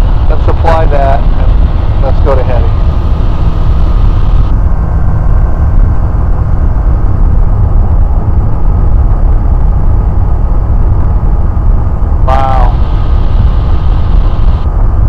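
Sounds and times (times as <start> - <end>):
airplane cockpit engine drone: 0.0 - 15.0.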